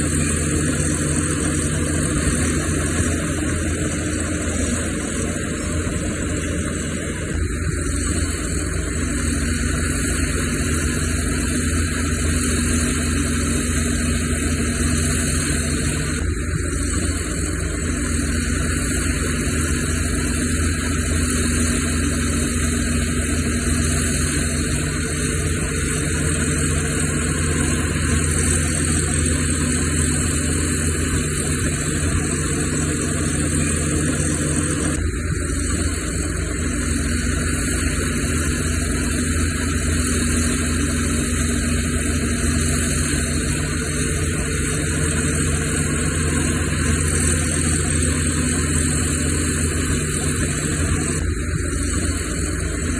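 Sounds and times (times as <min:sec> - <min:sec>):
heavy diesel engine droning: 0:00.0 - 0:52.9.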